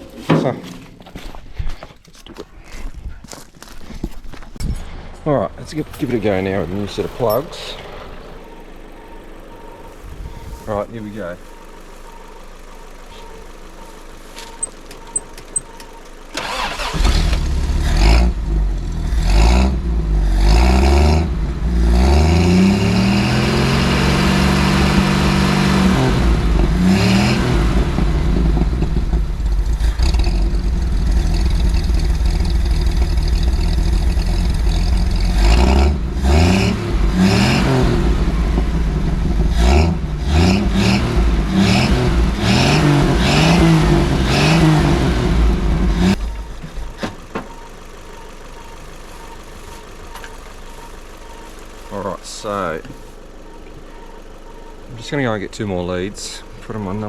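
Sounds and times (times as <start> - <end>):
car engine starting and revving: 4.8 - 57.0.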